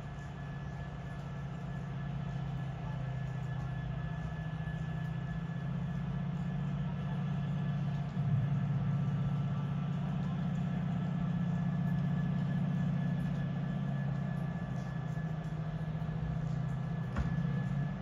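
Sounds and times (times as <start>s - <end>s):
locomotive engine droning: 0.0s - 18.0s.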